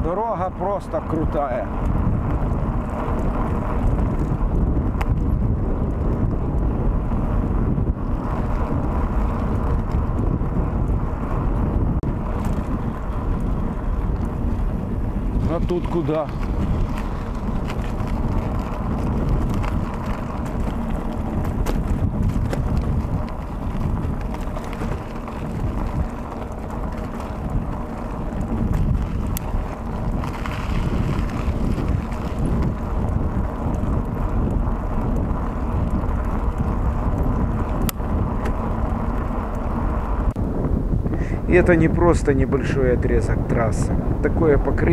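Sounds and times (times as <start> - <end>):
bike clicks and rattles: 0.0 - 44.9
bike tyres rumbling on asphalt: 0.0 - 44.9
wind rushing over microphone: 0.0 - 44.9.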